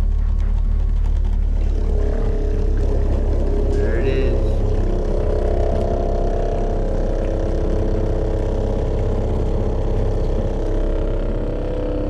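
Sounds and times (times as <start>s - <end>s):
pump humming: 0.0s - 12.0s.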